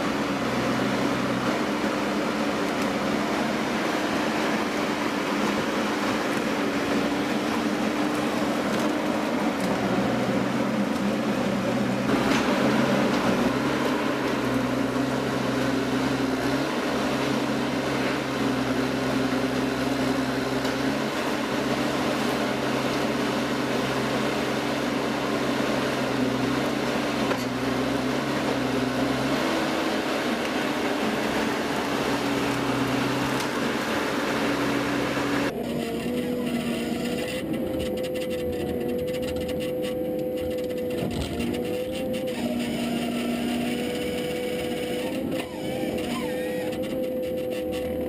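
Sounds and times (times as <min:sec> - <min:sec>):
machine humming and droning: 0:00.0 - 0:48.0.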